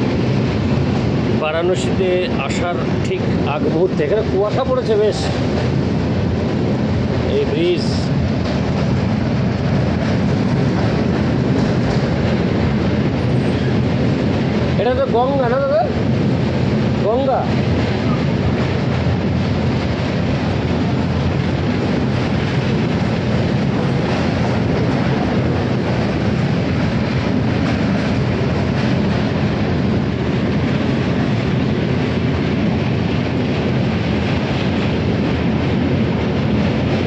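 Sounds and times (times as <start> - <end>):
train rumbling on board: 0.0 - 37.0.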